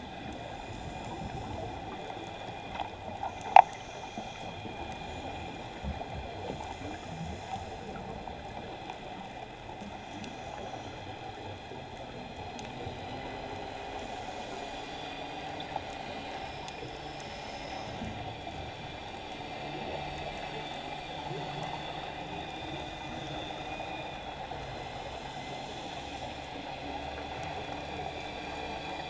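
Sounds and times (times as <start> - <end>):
muffled underwater rush: 0.0 - 29.0.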